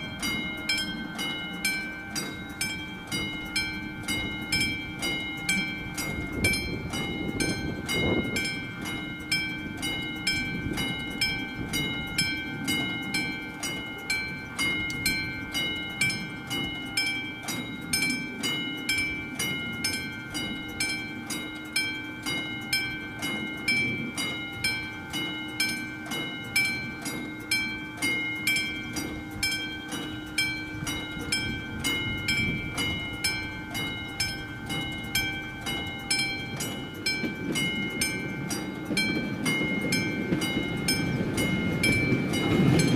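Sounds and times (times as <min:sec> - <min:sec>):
level-crossing bell ringing: 0:00.0 - 0:42.9.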